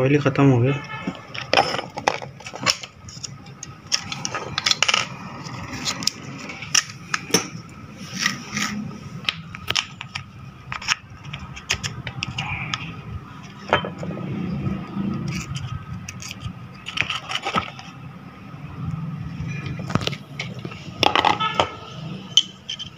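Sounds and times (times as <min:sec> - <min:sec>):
metal parts clinking and scraping: 0:01.0 - 0:14.1, 0:15.0 - 0:18.0, 0:19.5 - 0:22.9.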